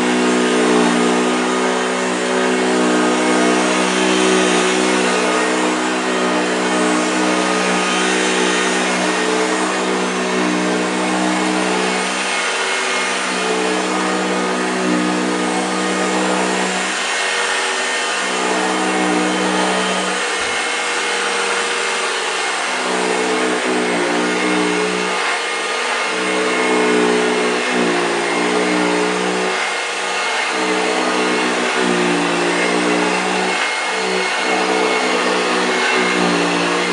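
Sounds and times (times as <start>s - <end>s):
upright vacuum cleaner running: 0.0s - 36.9s.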